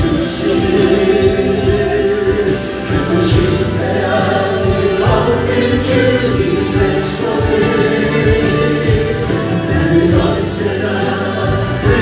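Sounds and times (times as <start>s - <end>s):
choir singing a hymn: 0.0s - 12.0s.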